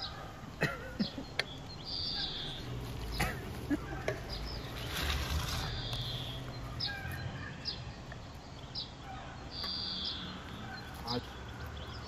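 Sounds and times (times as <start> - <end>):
small birds chirping: 0.0 - 12.0
steady low background noise: 0.0 - 12.0.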